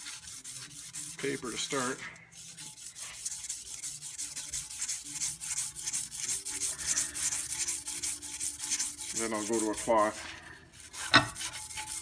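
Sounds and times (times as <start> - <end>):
sandpaper rasping on metal: 0.0 - 12.0.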